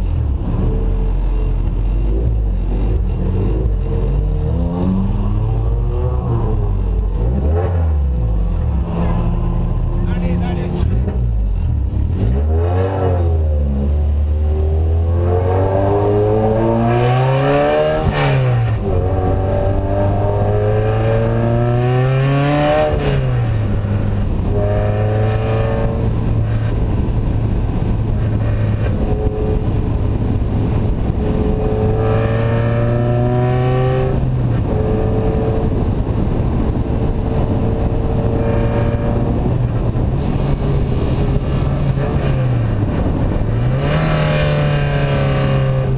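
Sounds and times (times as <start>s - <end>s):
engine revving with open exhaust: 0.0s - 45.9s.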